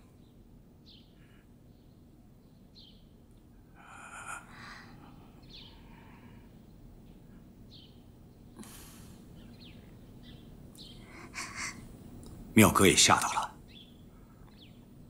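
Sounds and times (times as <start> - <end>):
faint bird chirps: 0.0 - 12.3, 13.0 - 15.0.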